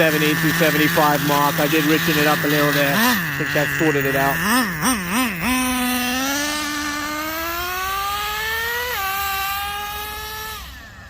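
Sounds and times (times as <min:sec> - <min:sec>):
model car engine accelerating: 0:00.0 - 0:11.0.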